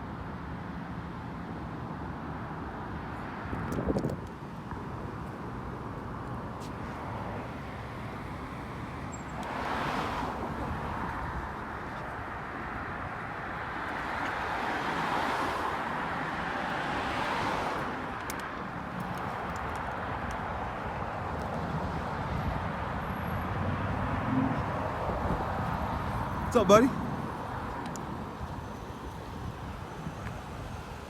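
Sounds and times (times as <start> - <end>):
traffic hum: 0.0 - 31.0
vehicles passing: 0.0 - 31.0.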